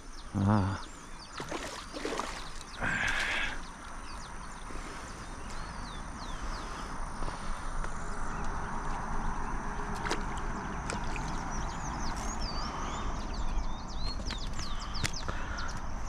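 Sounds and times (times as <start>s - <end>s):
birds chirping: 0.0s - 16.0s
outdoor rumble and hiss: 0.0s - 16.0s.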